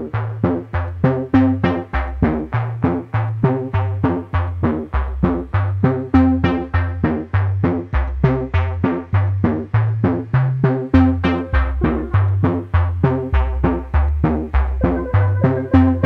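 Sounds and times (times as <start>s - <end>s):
stepping bass line: 0.0s - 16.0s.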